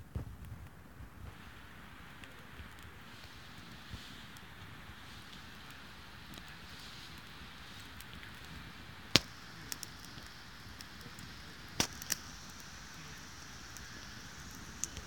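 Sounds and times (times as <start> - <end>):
campfire hissing: 0.0 - 15.0
crackling pops from burning sticks: 0.0 - 15.0.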